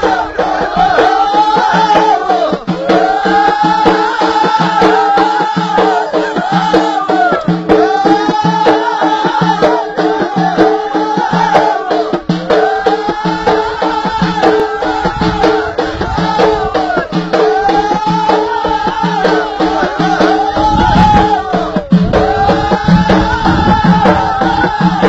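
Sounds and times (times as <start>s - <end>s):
chorus singing: 0.0s - 25.0s
frame drums beating: 0.0s - 25.0s.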